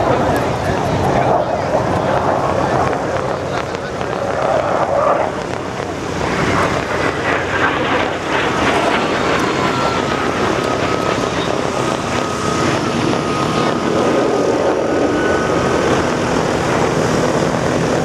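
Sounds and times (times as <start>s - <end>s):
airplane engine running: 0.0s - 18.0s
thin steady whine: 0.0s - 18.0s.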